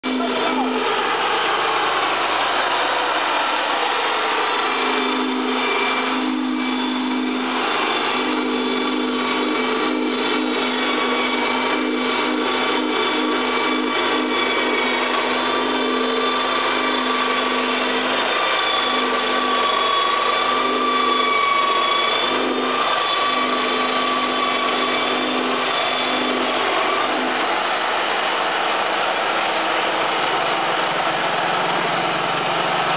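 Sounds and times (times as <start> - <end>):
saw whine cutting boards: 0.0 - 32.9
small engine running under load: 0.0 - 32.9.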